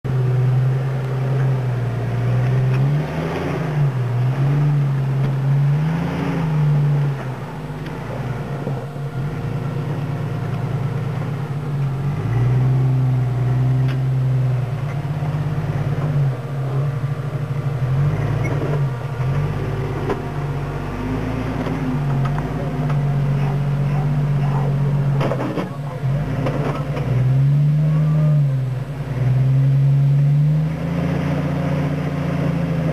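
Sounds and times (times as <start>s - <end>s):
buggy engine revving: 0.0s - 32.9s.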